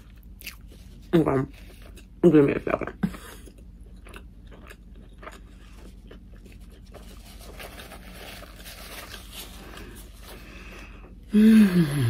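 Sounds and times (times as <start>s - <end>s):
person chewing food: 0.0s - 2.2s, 3.1s - 11.2s.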